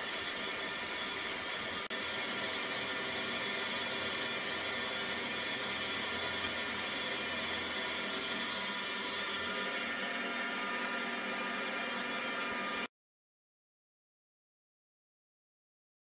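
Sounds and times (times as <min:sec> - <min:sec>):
drill whirring in metal: 0:00.0 - 0:12.9.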